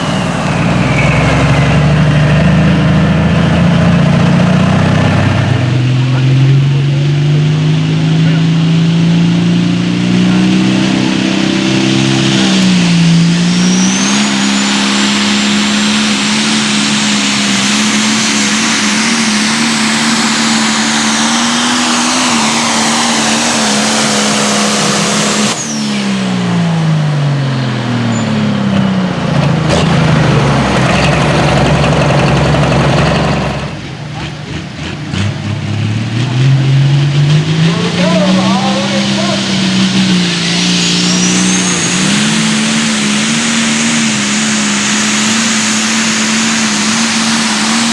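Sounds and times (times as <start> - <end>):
high whine: 0.0 - 34.6, 37.0 - 47.9
diesel engine running at high revs: 0.0 - 47.9.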